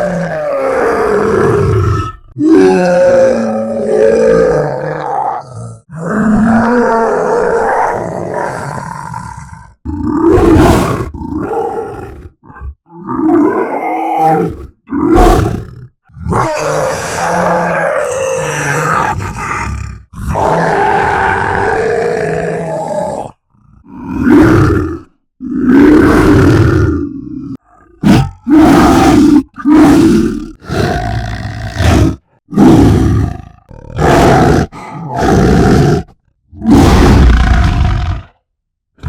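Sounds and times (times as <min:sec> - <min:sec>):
monster roars and growls: 0:00.0 - 0:38.4.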